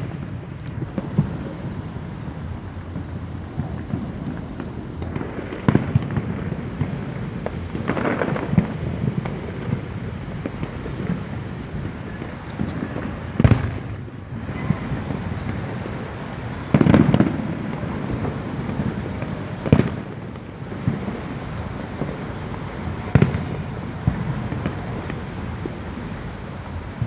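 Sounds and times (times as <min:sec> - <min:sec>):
faint fireworks crackles: 0:00.0 - 0:27.0
fireworks booming: 0:00.0 - 0:27.0.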